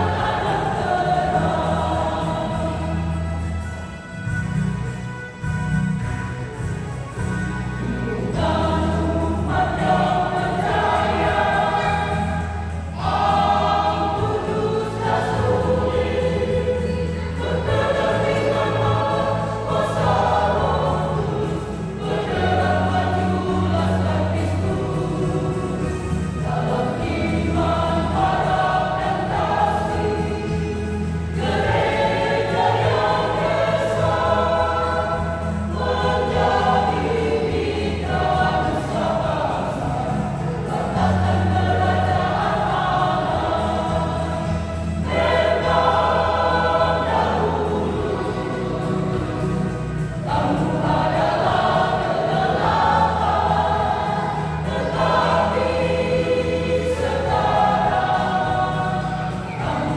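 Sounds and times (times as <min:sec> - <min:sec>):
mixed choir singing sacred song: 0:00.0 - 0:59.9.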